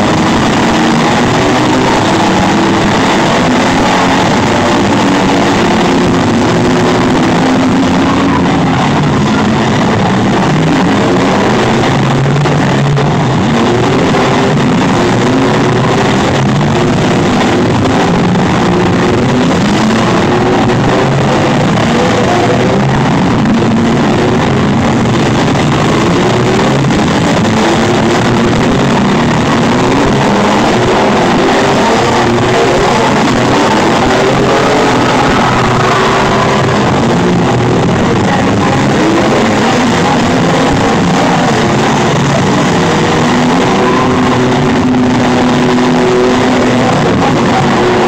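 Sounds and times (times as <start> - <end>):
engines revving hard: 0.0 - 48.0
rock music over loudspeakers: 0.0 - 48.0
vehicles ramming each other: 0.0 - 48.0.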